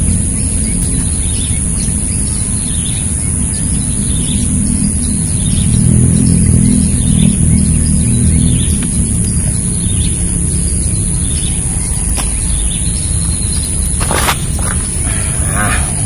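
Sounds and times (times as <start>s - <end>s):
low engine rumble: 0.0s - 16.0s
small birds chirping: 0.0s - 16.0s.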